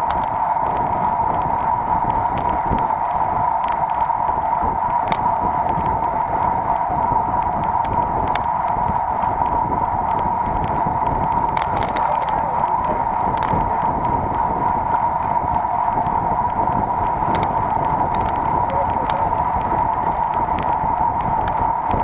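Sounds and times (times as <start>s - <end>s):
faint clicks: 0.0s - 22.0s
wind and road rush: 0.0s - 22.0s.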